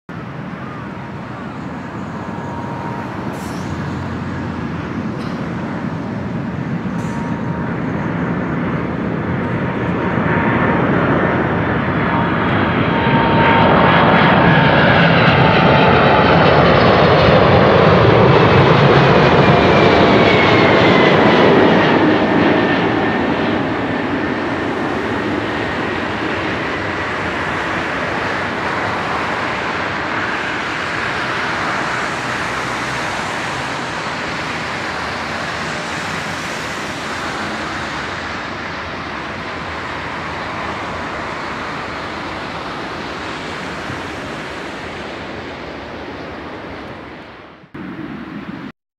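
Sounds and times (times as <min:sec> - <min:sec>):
jet engines passing overhead: 0:00.1 - 0:48.8.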